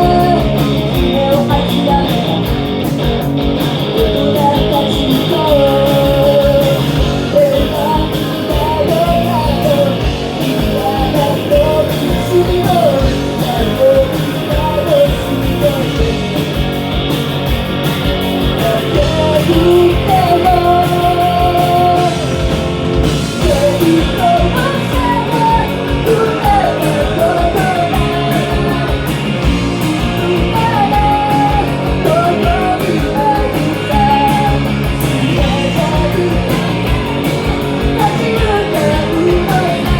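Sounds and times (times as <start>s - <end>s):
person singing: 0.0s - 2.6s, 3.9s - 16.7s, 18.5s - 22.4s, 23.4s - 37.0s, 37.7s - 39.9s
drum beat: 0.0s - 39.9s
electric guitar: 0.0s - 39.9s.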